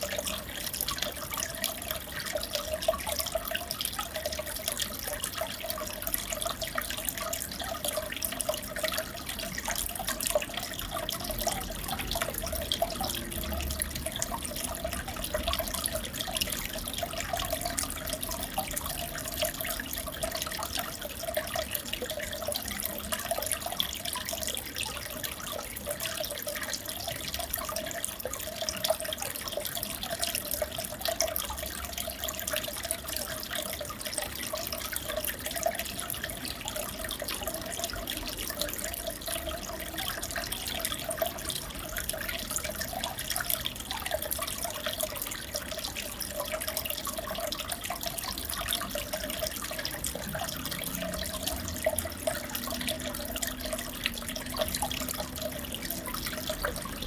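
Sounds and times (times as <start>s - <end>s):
aquarium water trickling and bubbling: 0.0s - 57.0s
small water splashes: 0.0s - 57.0s.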